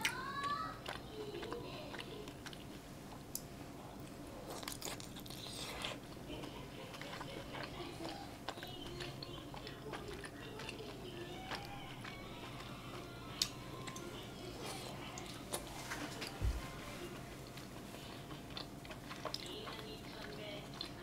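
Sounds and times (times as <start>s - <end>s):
chewing with mouth clicks: 0.0s - 21.0s.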